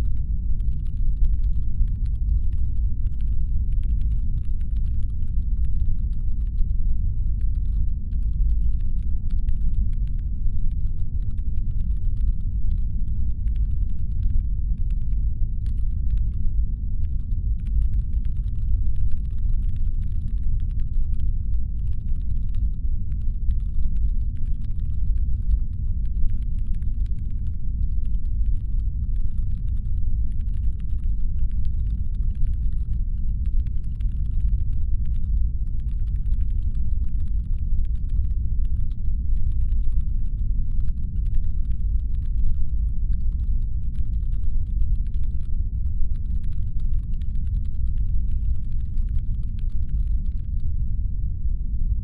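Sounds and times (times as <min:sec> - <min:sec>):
deep spaceship engine hum: 0:00.0 - 0:52.0.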